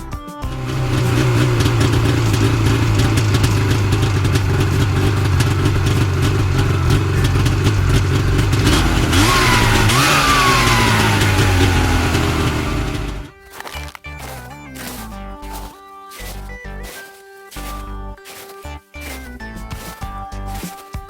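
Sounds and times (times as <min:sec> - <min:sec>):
vehicle engine running: 0:00.4 - 0:17.0, 0:17.6 - 0:18.4.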